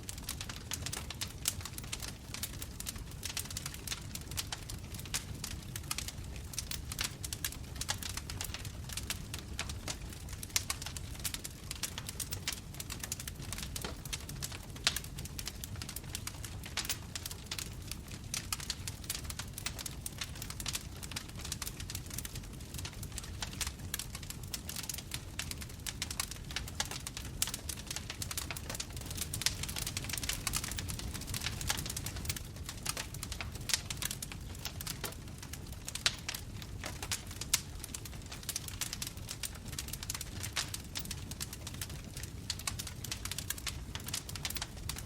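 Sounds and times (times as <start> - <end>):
bonfire crackling: 0.0 - 45.0
low rumble of flames: 0.0 - 45.0
fire pops: 0.1 - 45.0.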